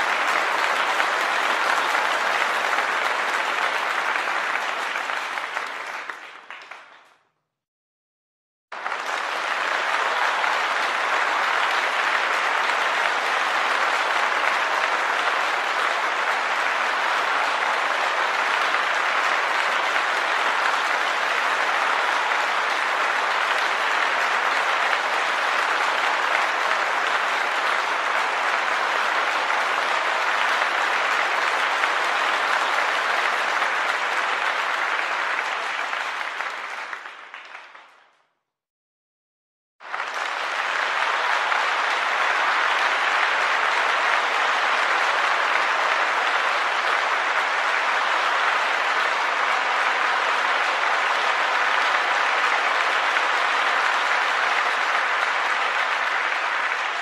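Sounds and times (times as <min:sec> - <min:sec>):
crowd applauding: 0:00.0 - 0:07.3, 0:08.7 - 0:38.4, 0:39.8 - 0:57.0.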